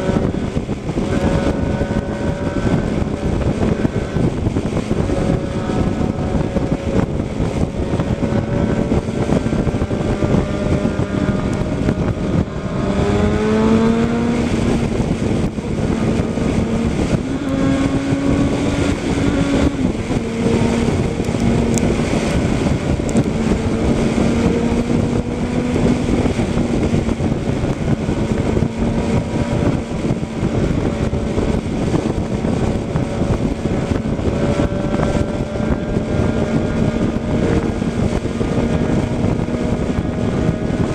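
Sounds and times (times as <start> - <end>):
road noise: 0.0 - 40.9
vehicle engine running: 0.0 - 40.9.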